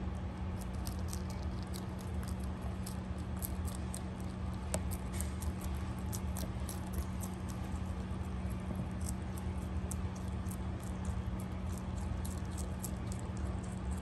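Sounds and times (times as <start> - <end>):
rabbit chewing lettuce: 0.0 - 14.0
steady low hum: 0.0 - 14.0.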